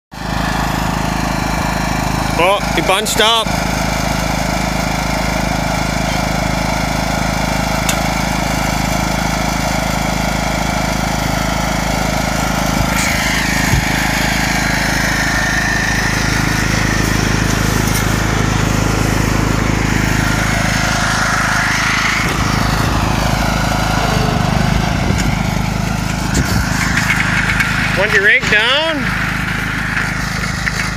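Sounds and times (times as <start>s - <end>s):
lawn tractor engine running: 0.2s - 30.9s.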